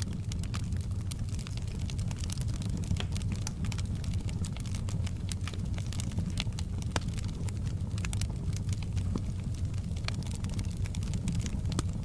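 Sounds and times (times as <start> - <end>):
fire crackling and popping: 0.0 - 12.0
fire rumbling: 0.0 - 12.0.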